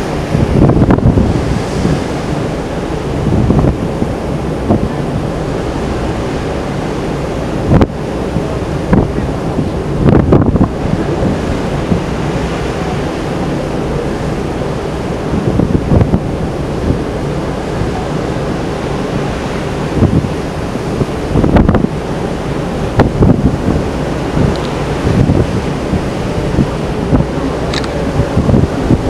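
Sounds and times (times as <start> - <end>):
sea rushing: 0.0 - 29.0
wind buffeting microphone: 0.0 - 29.0.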